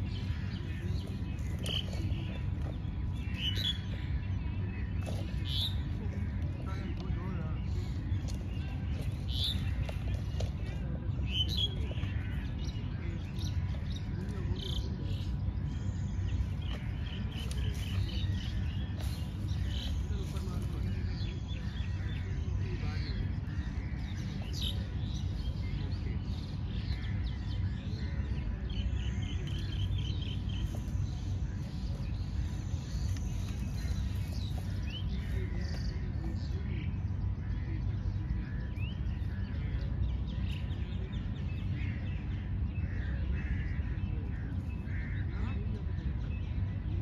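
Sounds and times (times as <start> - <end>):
small birds chirping: 0.0 - 47.0
steady low rumble: 0.0 - 47.0.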